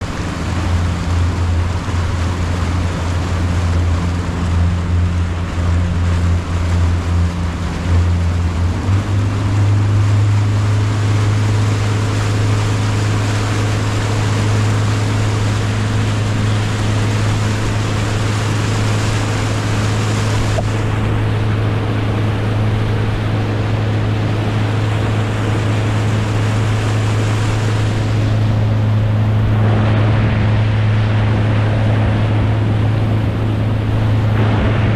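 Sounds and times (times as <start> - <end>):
motorboat engine droning: 0.0 - 34.9
rushing water: 0.0 - 34.9
wind: 0.0 - 34.9.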